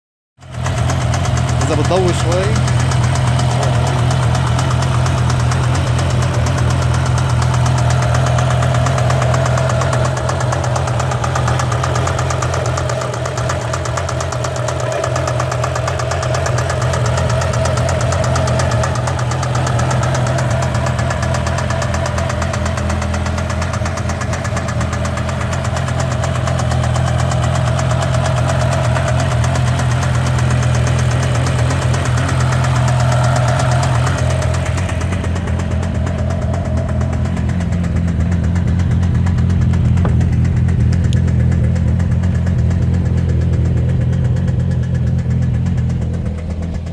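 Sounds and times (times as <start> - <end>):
engine running with rapid knock: 0.4 - 46.9.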